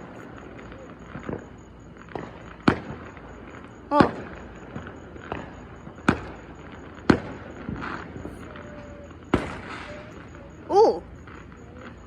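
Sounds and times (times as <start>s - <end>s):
distant fireworks bangs: 0.0s - 12.0s
faint firework pops and crackle: 0.0s - 12.0s.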